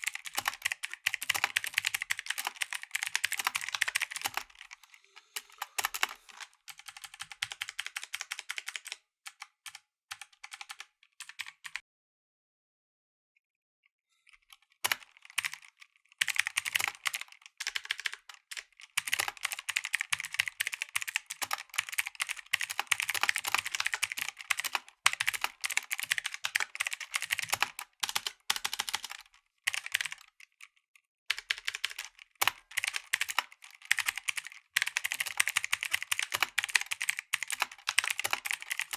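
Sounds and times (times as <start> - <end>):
typing on mechanical keyboard: 0.0 - 11.8, 14.3 - 38.9.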